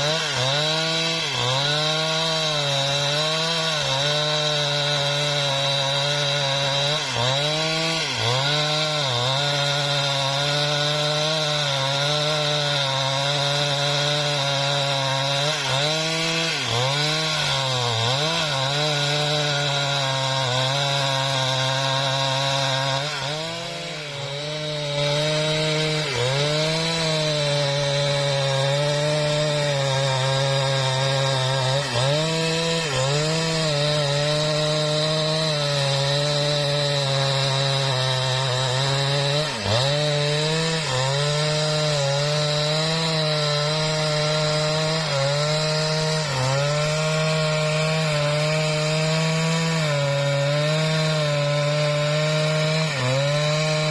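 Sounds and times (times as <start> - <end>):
chainsaw cutting wood at full throttle: 0.0 - 53.9.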